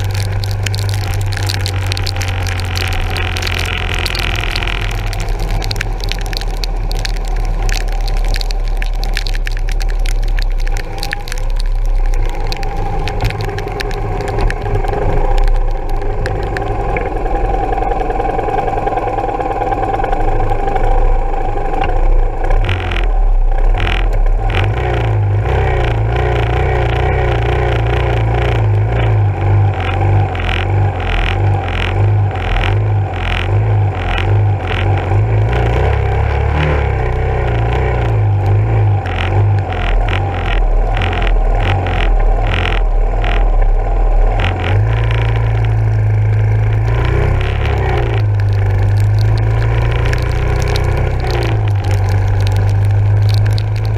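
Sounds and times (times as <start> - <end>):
rain and wind hitting camera: 0.0 - 53.9.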